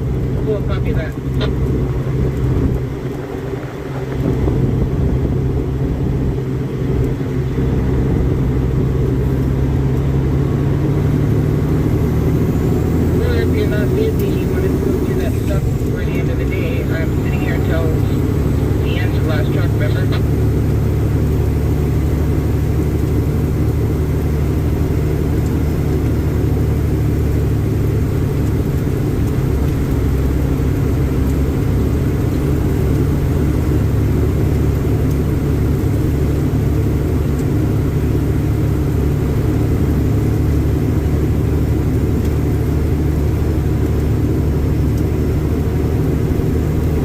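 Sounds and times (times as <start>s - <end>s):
dump truck diesel engine running: 0.0s - 47.0s.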